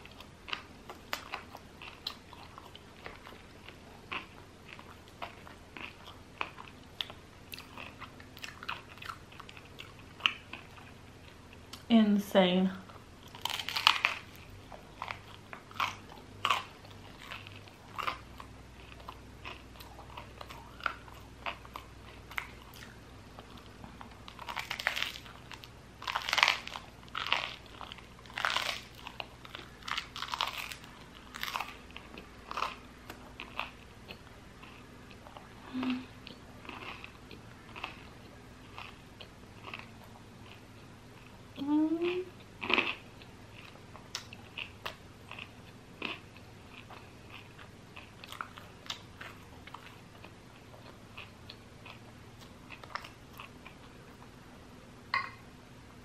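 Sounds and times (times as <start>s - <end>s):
crunching and chewing bread: 0.0s - 11.9s, 12.9s - 41.6s, 42.3s - 54.5s.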